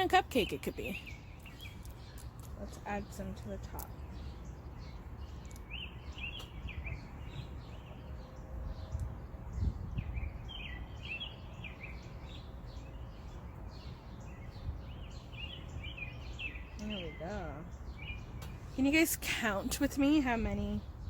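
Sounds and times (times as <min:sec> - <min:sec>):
songbird chirping: 0:00.0 - 0:21.0
wind rumble on microphone: 0:01.5 - 0:18.8, 0:20.0 - 0:21.0.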